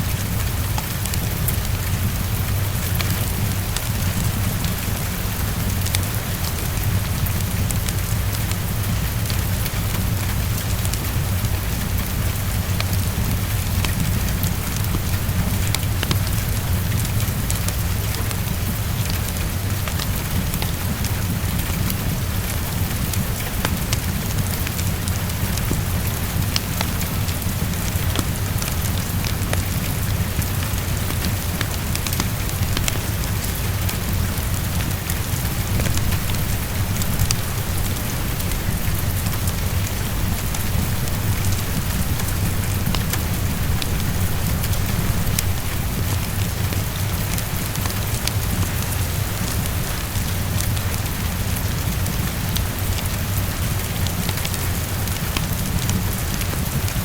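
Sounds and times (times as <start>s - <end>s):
heavy rain against a window: 0.0s - 57.0s
wood fire crackling: 0.0s - 57.0s.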